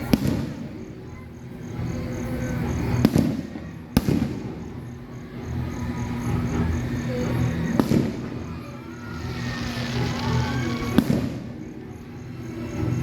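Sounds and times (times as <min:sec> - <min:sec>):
fireworks bangs with low rumble: 0:00.0 - 0:13.0.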